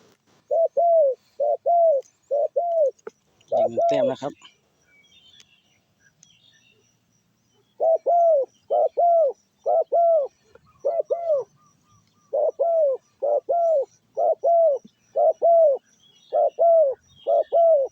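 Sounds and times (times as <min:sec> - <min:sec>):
dove cooing: 0:00.0 - 0:04.4, 0:07.6 - 0:17.9.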